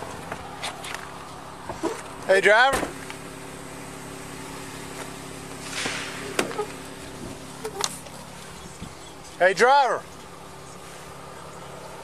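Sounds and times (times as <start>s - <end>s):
car engine idling: 0.0s - 12.0s
passing vehicle rush: 0.0s - 12.0s.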